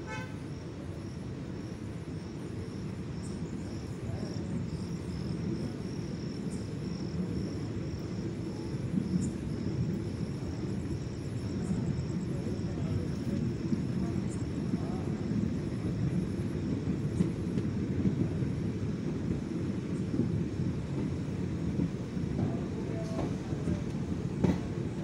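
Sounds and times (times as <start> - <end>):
crickets chirping: 0.0 - 25.0
train coach rumbling: 0.0 - 25.0.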